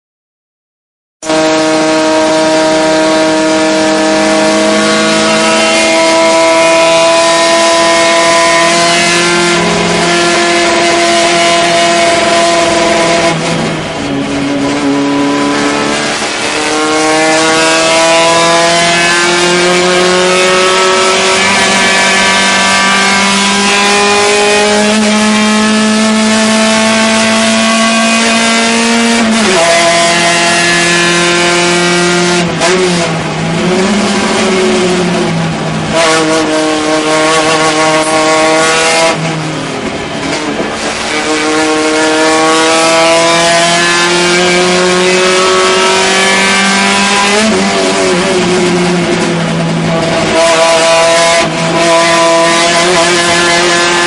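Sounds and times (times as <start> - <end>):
race car engine revving: 1.2 - 54.0.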